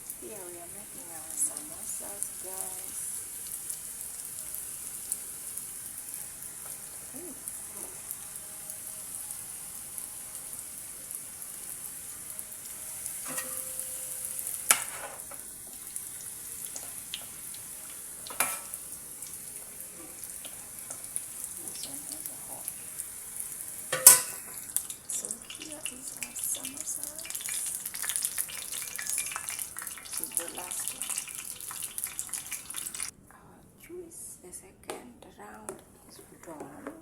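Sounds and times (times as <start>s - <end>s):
samosas deep-frying in oil: 0.0s - 33.2s.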